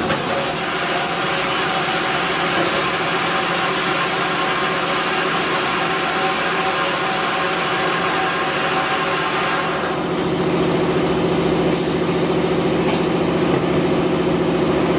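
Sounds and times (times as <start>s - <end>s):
bottling machine running: 0.0s - 14.9s
constant machine hum: 0.0s - 14.9s.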